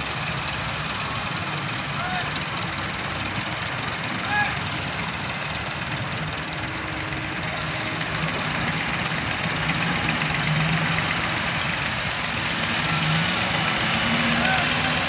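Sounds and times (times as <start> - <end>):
excavator diesel engine working: 0.0 - 15.0
tractor idling: 0.0 - 15.0.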